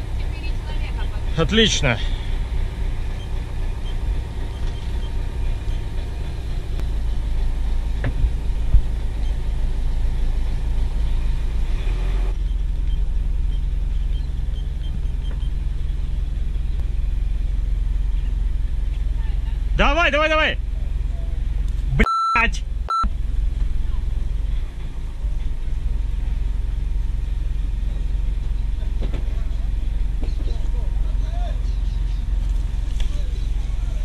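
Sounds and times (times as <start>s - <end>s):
boat engine rumbling: 0.0s - 34.0s.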